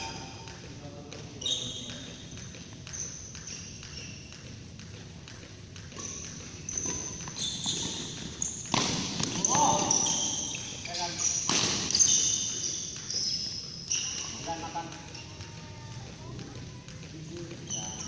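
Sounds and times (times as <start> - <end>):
shoes squeaking on court floor: 0.0 - 18.0.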